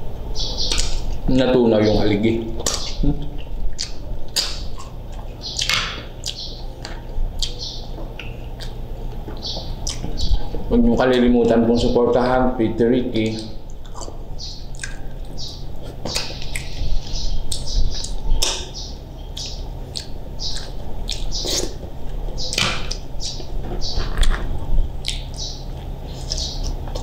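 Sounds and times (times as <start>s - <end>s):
steady low hum: 0.0s - 27.0s
wet chewing and lip smacks: 0.6s - 1.2s, 2.6s - 10.6s, 13.2s - 27.0s.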